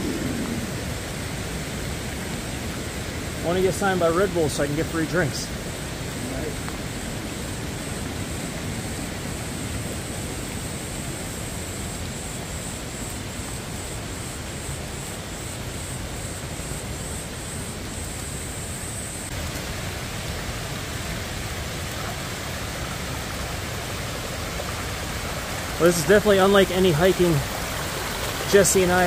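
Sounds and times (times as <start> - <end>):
rain and running water: 0.0 - 29.0.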